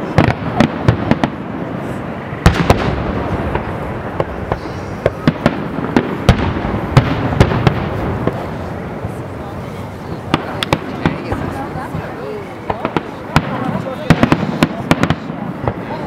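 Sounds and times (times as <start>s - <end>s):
continuous background noise: 0.0s - 16.0s.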